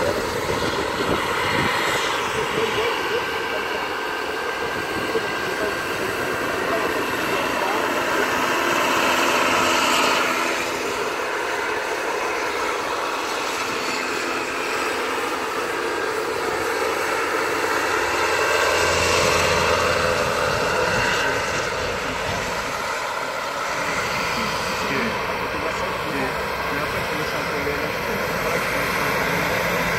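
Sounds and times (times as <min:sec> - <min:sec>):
model helicopter motor whine: 0:00.0 - 0:29.9.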